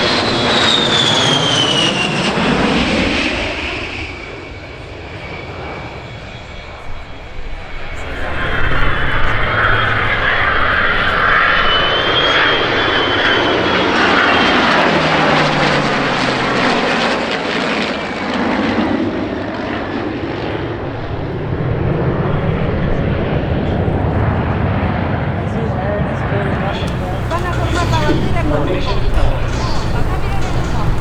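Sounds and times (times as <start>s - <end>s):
airplane engine flying past: 0.0s - 25.1s, 26.4s - 31.0s.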